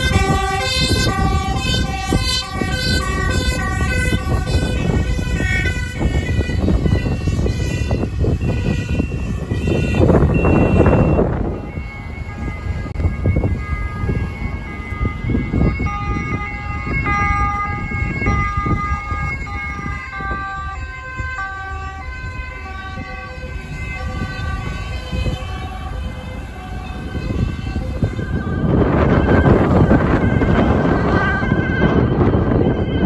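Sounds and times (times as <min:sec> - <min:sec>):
passing cars: 0:00.0 - 0:33.0
two-tone emergency siren: 0:00.0 - 0:33.0
wind: 0:00.0 - 0:33.0.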